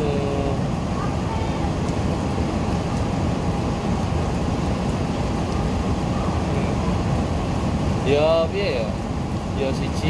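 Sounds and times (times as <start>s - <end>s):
ship engine drone: 0.0s - 9.9s
wind across the microphone: 0.0s - 10.0s.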